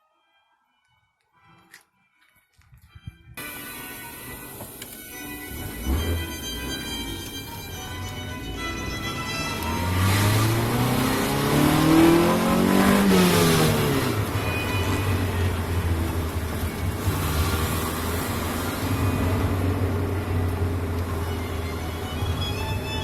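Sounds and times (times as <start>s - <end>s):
car engine revving: 4.0s - 23.0s.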